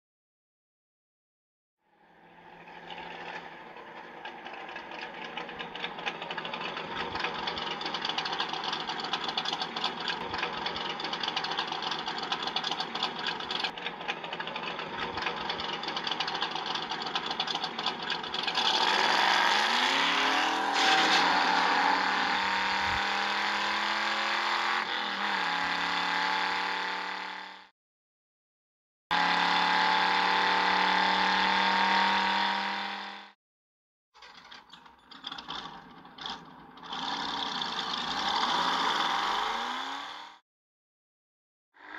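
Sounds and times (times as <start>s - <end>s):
car engine revving: 2.1s - 27.7s, 29.1s - 33.4s, 35.3s - 40.4s.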